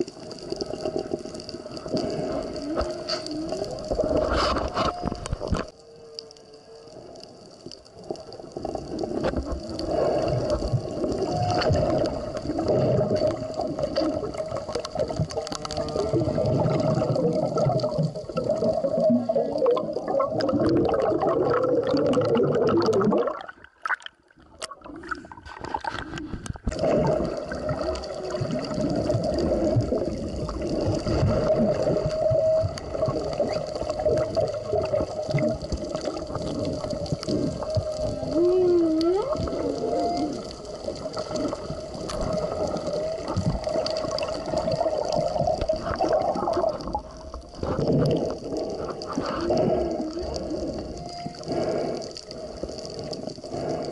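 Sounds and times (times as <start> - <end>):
underwater bubbling rushing water: 0.0 - 53.9.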